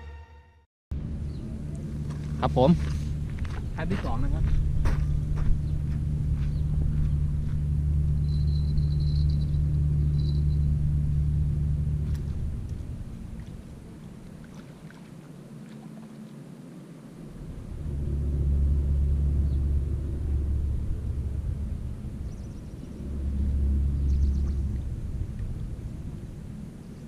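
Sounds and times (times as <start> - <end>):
wind buffeting microphone: 1.1 - 27.0.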